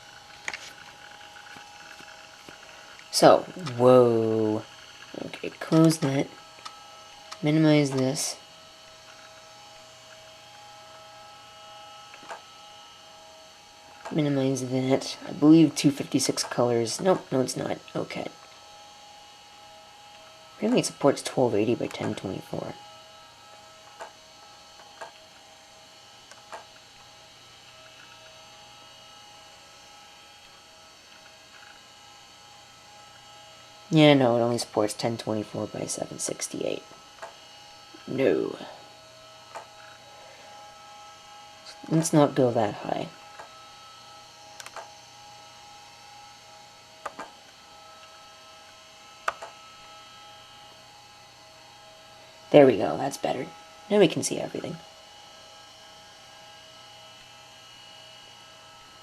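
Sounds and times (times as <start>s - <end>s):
faint high whining tones: 0.0s - 59.0s
steady electrical hum: 0.0s - 59.0s.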